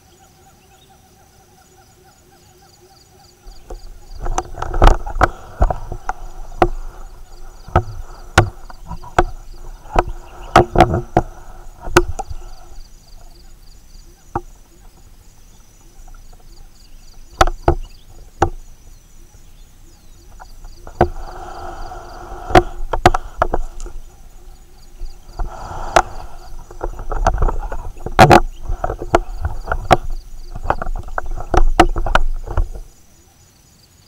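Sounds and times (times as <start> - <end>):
distant chorus of animal calls: 0.0 - 33.5
faint insect trill: 0.0 - 34.0.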